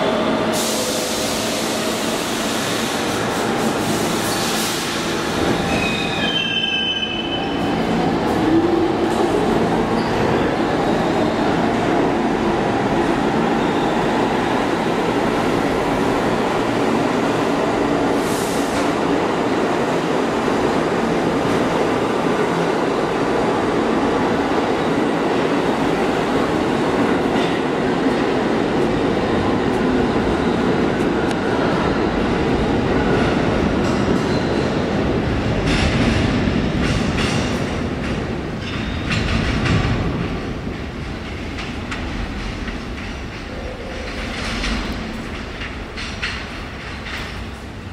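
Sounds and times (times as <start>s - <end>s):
subway train rumbling: 0.0s - 47.9s.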